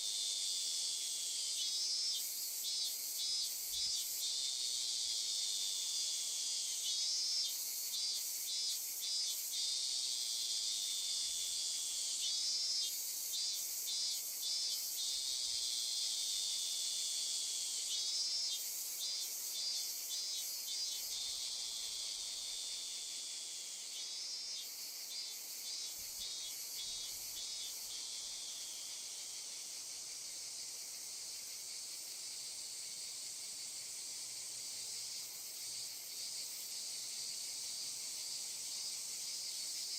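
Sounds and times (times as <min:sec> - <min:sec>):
insect buzzing drone: 0:00.0 - 0:39.9
rapid insect chirping: 0:00.0 - 0:39.9.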